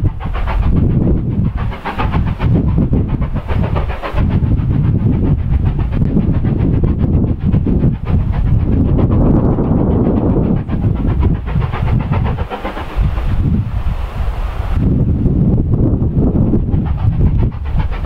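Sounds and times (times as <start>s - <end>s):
distant steam locomotive chuffing: 0.0s - 18.0s
wind buffeting microphone: 0.0s - 18.0s.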